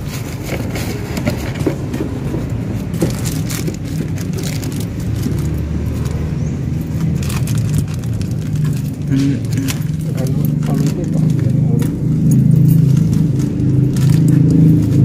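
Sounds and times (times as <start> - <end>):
plastic wrapping rustling: 0.0 - 15.0
motor engine humming: 0.6 - 15.0.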